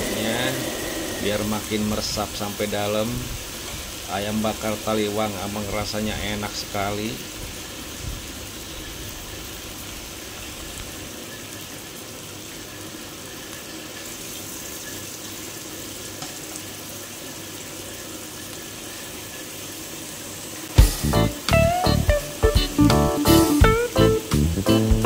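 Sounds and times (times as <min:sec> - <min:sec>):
chicken sizzling in a hot pan: 0:00.0 - 0:25.0.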